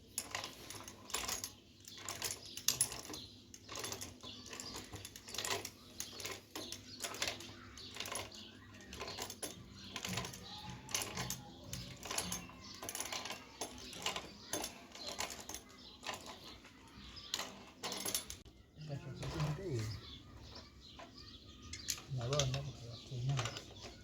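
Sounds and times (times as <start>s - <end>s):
small metal tools clinking: 0.0s - 24.0s.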